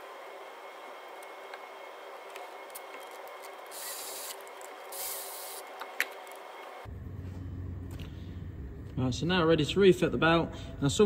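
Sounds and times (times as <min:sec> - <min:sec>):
workshop hum: 0:00.0 - 0:11.0.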